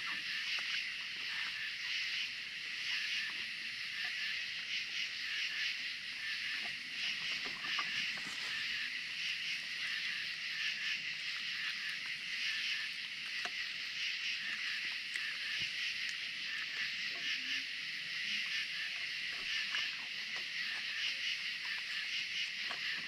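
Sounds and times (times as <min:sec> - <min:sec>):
night insects chorus: 0:00.0 - 0:23.0
raccoons chewing: 0:00.0 - 0:23.0.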